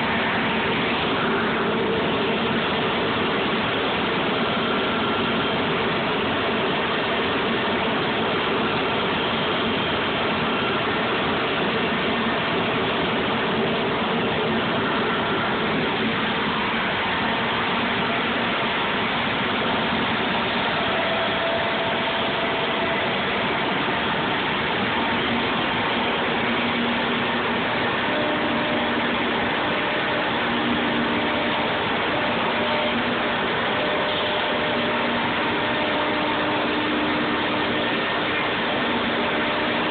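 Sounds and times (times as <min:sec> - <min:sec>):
router machine whirring: 0:00.0 - 0:39.9.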